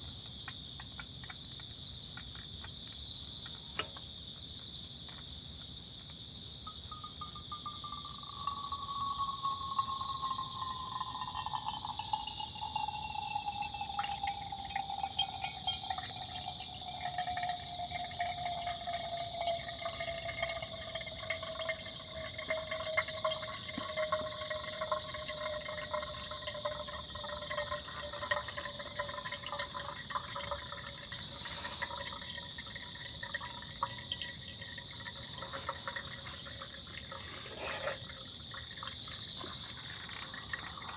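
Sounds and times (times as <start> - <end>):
crickets chirping: 0.0 - 40.9
water pouring in a stream: 6.8 - 40.9.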